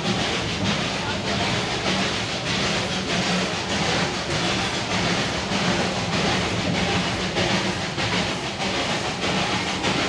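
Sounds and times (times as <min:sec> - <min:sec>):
steam train rumbling on track: 0:00.0 - 0:10.0.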